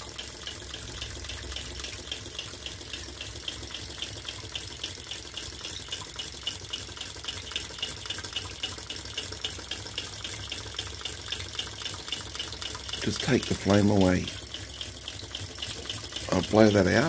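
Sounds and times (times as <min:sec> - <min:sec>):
water splashing from pump: 0:00.0 - 0:17.0.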